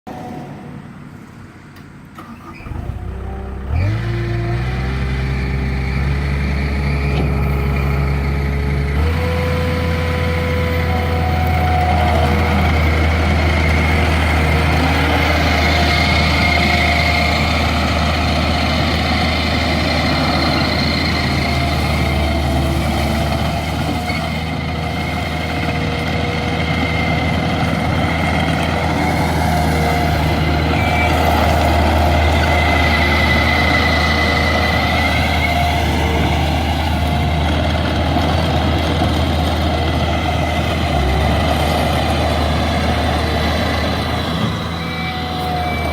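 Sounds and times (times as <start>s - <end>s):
diesel engine starting and idling: 0.1s - 45.9s.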